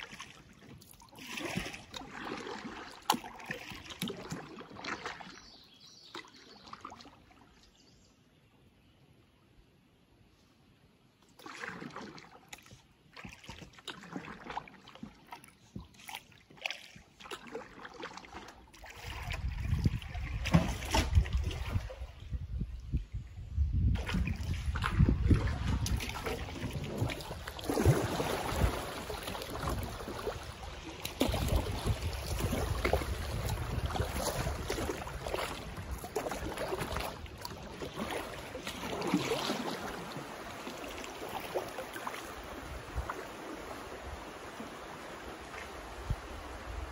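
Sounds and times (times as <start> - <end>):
paddle strokes: 0.0 - 7.5, 10.4 - 22.2, 24.0 - 46.9
water splashing and trickling: 0.0 - 8.1, 11.2 - 46.9.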